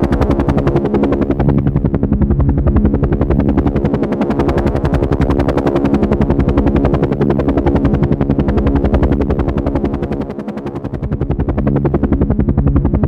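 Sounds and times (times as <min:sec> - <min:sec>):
helicopter rotor chop: 0:00.0 - 0:13.0.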